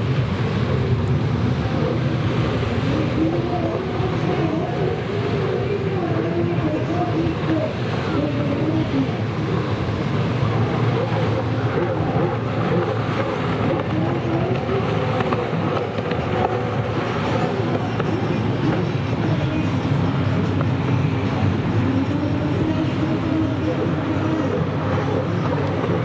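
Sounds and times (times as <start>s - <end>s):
jet ski engines running hard: 0.0s - 26.0s.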